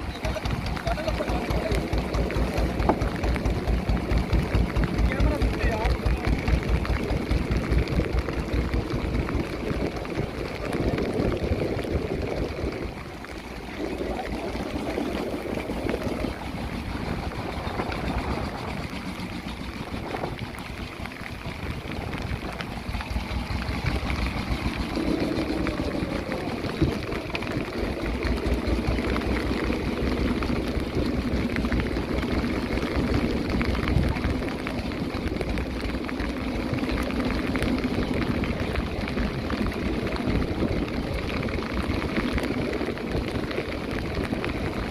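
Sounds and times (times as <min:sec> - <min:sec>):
boat engine humming: 0:00.0 - 0:44.9
rain: 0:00.0 - 0:44.9
water washing: 0:00.0 - 0:44.9.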